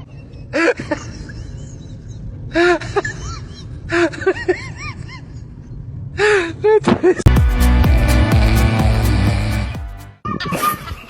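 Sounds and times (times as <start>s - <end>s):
background noise: 0.0s - 8.3s, 10.2s - 11.0s.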